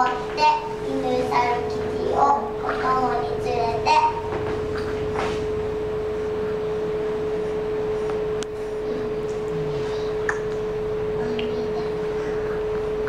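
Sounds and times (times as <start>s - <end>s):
low room noise: 0.0s - 13.0s
steady hum: 0.0s - 13.0s.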